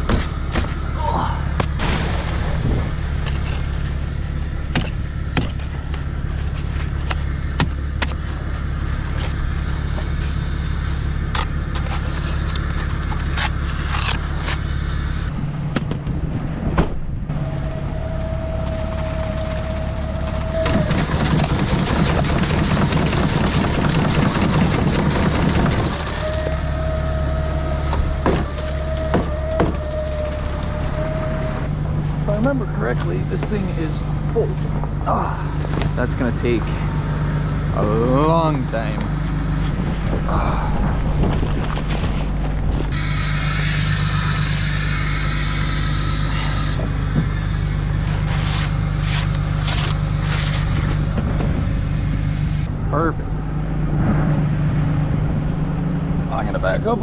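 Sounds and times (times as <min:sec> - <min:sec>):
engine knocks and rattles: 0:00.0 - 0:43.1, 0:46.0 - 0:57.0
steady whine: 0:00.0 - 0:57.0
truck engine humming: 0:00.0 - 0:57.0.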